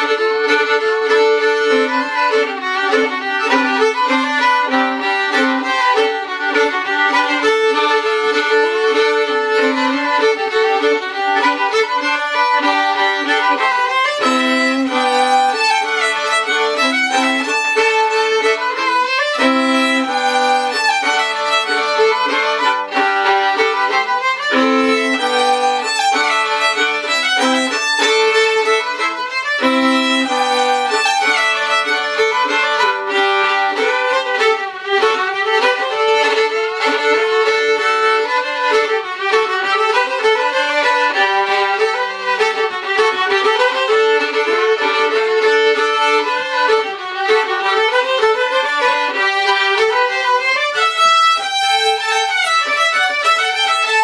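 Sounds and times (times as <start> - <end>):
fiddle duet: 0.0 - 54.0.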